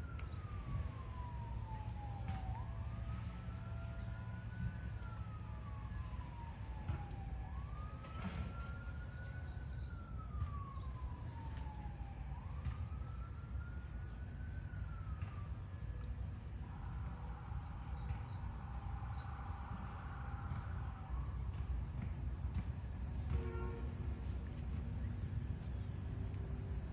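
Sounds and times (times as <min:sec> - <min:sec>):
siren wailing: 0:00.0 - 0:21.8, 0:23.3 - 0:26.9.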